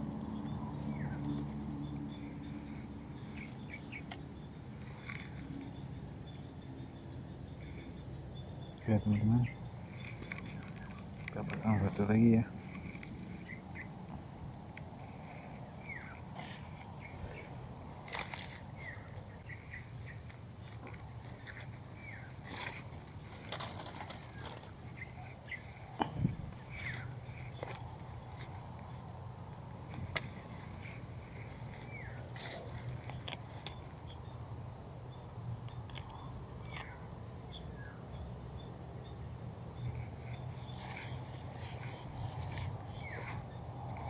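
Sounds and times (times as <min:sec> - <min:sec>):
bird chirping: 0:00.0 - 0:14.4, 0:15.0 - 0:44.0
steady low hum: 0:00.0 - 0:44.0.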